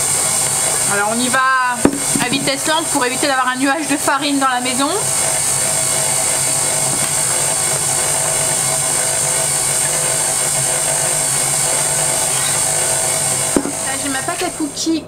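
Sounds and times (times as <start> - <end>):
stand mixer running: 0.0 - 15.0.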